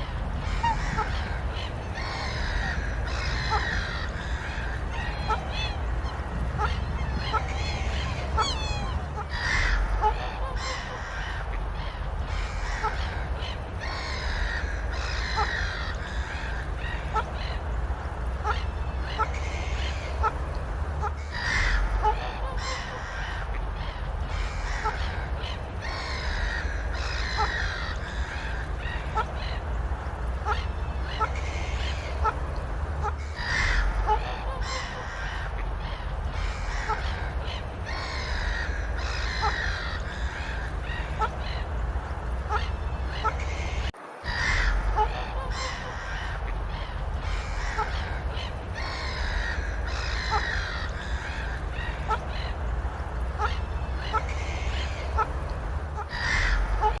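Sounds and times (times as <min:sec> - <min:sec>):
birds calling: 0:00.0 - 0:57.0
low rumble: 0:00.0 - 0:57.0.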